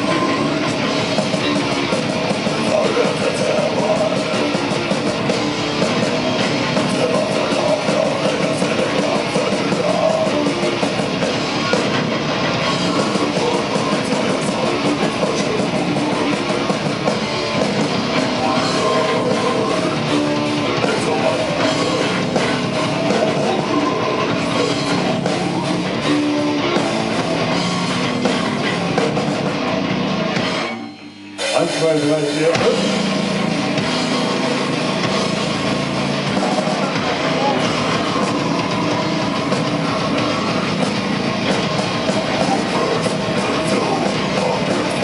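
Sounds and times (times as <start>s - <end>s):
distorted electric guitars: 0.0s - 45.0s
drums: 0.0s - 45.0s.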